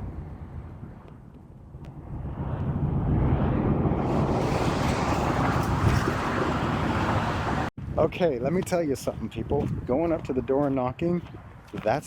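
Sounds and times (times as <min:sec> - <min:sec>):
car road and wind noise: 0:00.0 - 0:11.8.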